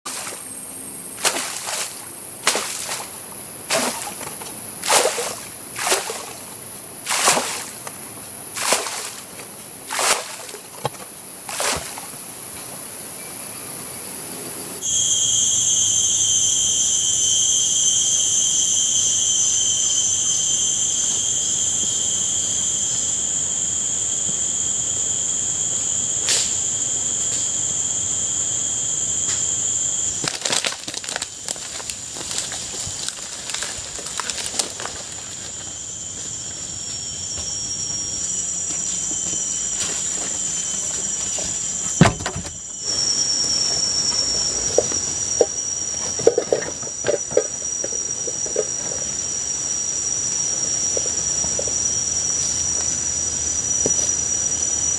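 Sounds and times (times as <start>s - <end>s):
night insects chirring: 0.1s - 54.9s.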